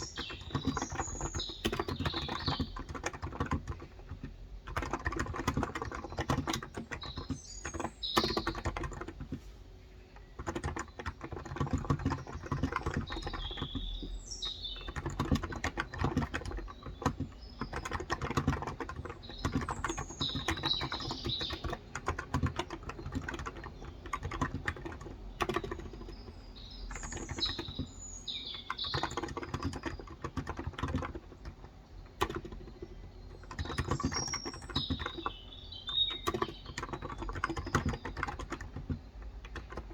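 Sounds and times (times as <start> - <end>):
birds chirping: 0.0 - 39.9
keyboard typing: 0.0 - 39.9.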